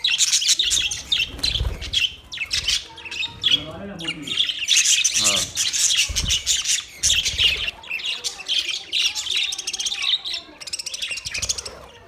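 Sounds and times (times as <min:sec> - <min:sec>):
budgerigars chirping and chattering: 0:00.0 - 0:12.0.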